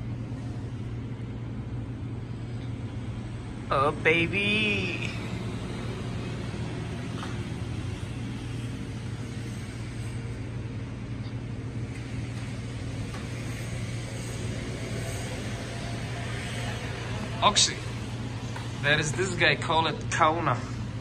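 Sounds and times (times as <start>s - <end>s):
machinery hum and hiss: 0.0s - 21.0s.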